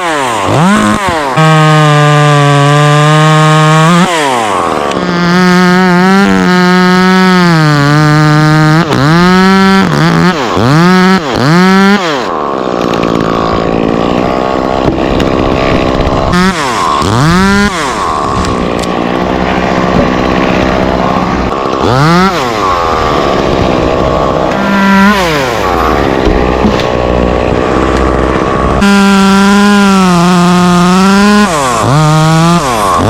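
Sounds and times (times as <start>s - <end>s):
chainsaw cutting wood: 0.0s - 33.0s
chainsaw revving: 0.0s - 33.0s.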